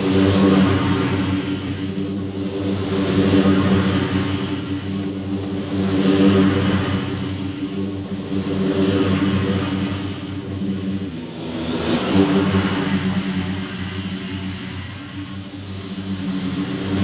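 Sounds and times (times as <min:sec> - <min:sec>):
mower engine drone: 0:00.0 - 0:17.0.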